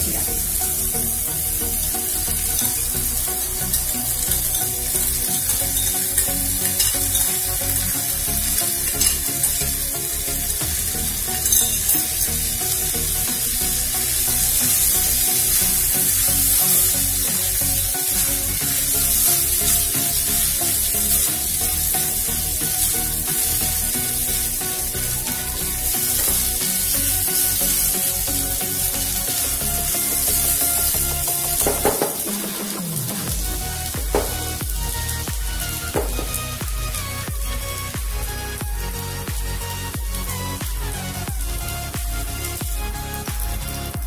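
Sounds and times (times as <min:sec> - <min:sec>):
hot oil sizzling: 0:00.0 - 0:44.0.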